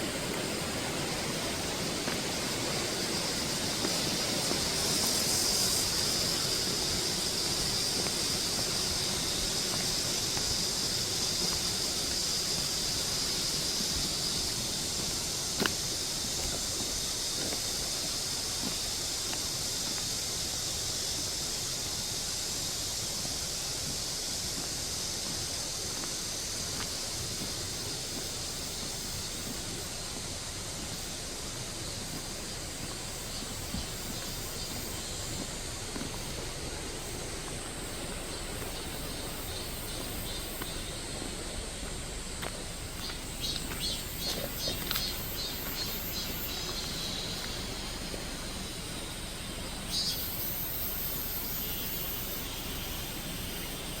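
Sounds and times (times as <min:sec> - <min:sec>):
cicada calling in pulses: 0:00.0 - 0:54.0
cicadas buzzing: 0:00.0 - 0:54.0.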